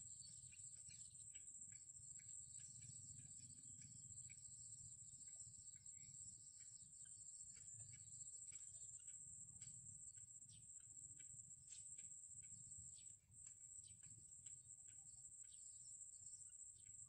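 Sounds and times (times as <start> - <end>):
bird chicks peeping: 0.0 - 17.0.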